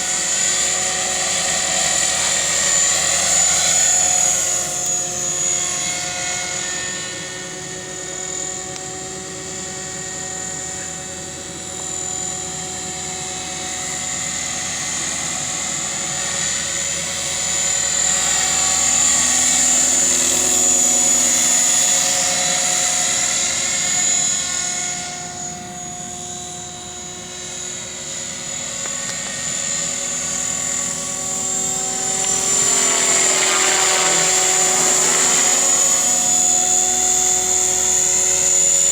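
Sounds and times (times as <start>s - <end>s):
rc helicopter whine: 0.0s - 38.9s.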